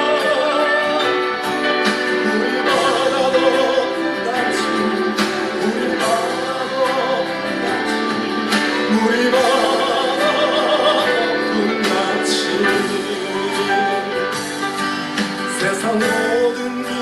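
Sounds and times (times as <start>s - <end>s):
person singing worship song: 0.0s - 14.4s
instrumental accompaniment: 0.0s - 17.0s.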